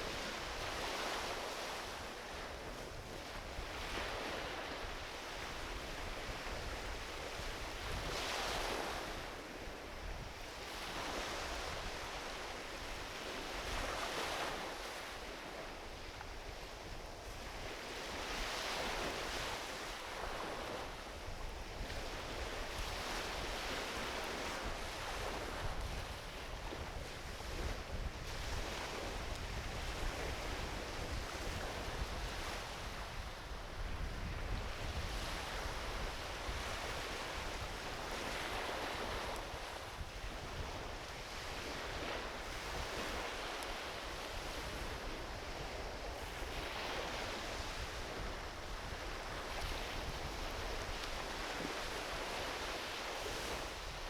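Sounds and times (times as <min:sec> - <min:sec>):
small waves washing on beach: 0:00.0 - 0:54.0
wind rumble on microphone: 0:00.0 - 0:54.0.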